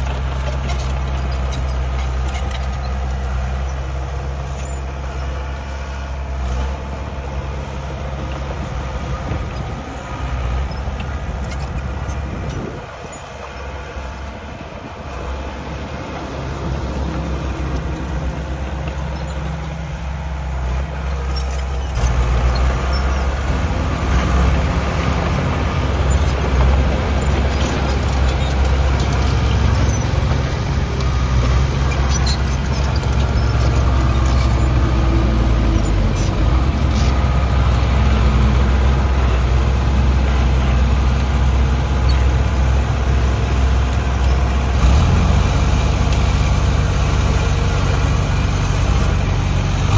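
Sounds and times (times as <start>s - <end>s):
heavy machinery diesel engine: 0.0s - 49.9s.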